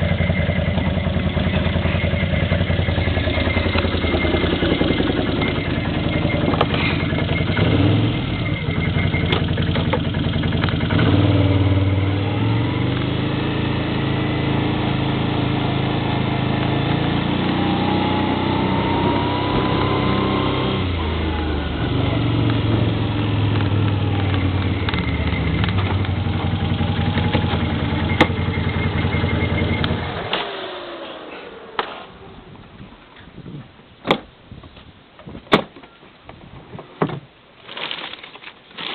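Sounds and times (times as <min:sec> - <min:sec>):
atv engine revving: 0:00.0 - 0:32.6.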